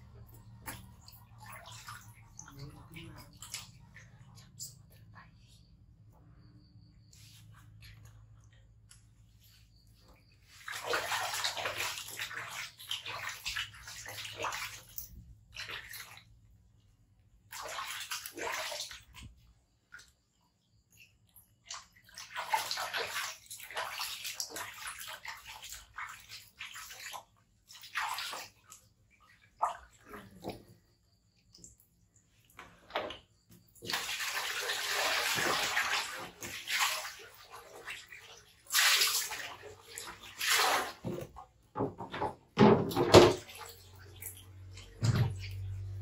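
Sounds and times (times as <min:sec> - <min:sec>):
water sloshing in plastic basin: 0:00.0 - 0:05.4, 0:06.9 - 0:46.0.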